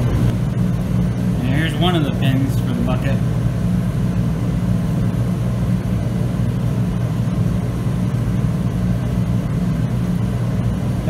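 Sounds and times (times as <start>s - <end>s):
heater humming: 0.0s - 11.0s.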